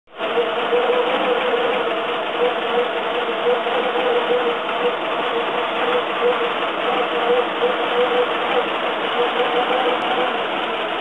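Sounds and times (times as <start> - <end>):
car engine idling: 0.1 - 11.0.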